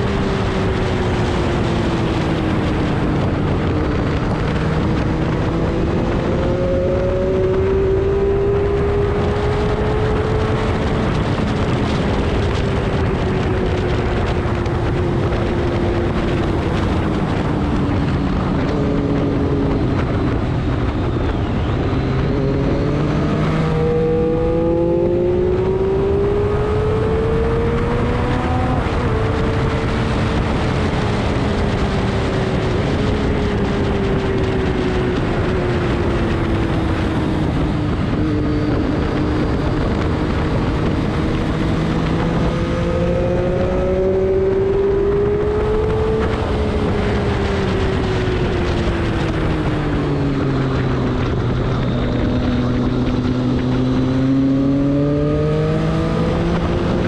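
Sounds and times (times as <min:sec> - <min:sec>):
race car engine running hard: 0:00.0 - 0:57.0
steady rush of noise: 0:00.0 - 0:57.0.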